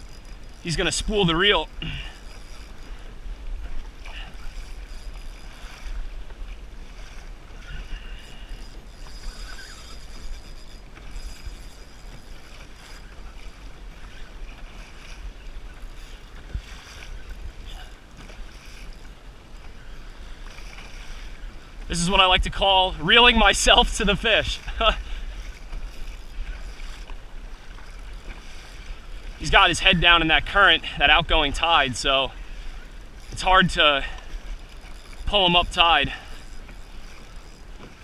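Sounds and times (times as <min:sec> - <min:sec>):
water slapping kayak hull: 0:00.0 - 0:38.0.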